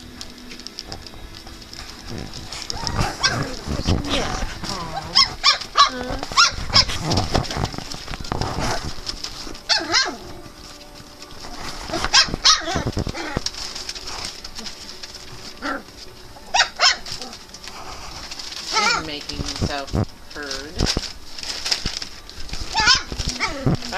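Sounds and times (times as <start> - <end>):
rustling and scuffling: 0.0 - 23.9
puppies yipping and barking: 1.7 - 23.9.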